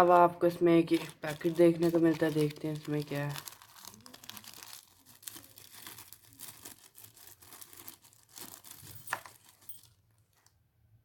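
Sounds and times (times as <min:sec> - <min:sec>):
plastic packet rustling: 0:00.0 - 0:10.5.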